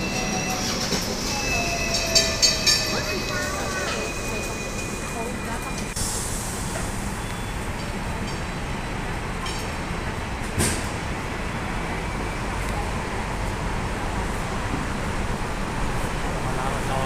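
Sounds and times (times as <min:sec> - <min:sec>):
bus running past: 0:00.0 - 0:17.0
street traffic: 0:00.0 - 0:17.0
tram running past: 0:00.0 - 0:17.0.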